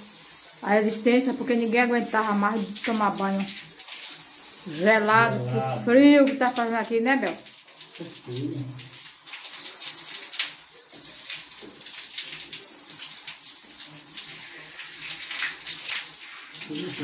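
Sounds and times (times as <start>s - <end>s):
shower water splashing: 0.0s - 17.0s.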